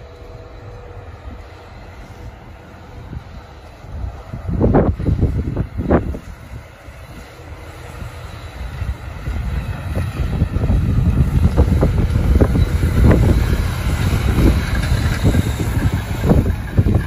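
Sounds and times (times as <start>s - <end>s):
plow blade scraping road: 0.0s - 17.0s
truck engine rumble: 0.0s - 17.0s.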